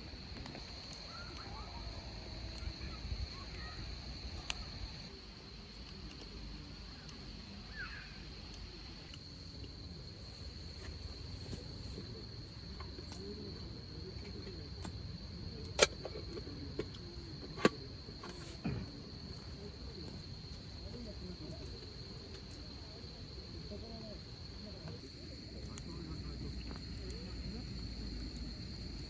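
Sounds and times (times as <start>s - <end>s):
campfire popping: 0.0s - 6.4s, 8.4s - 29.0s
crickets trilling: 0.0s - 29.0s
faint distant voices: 0.0s - 29.0s.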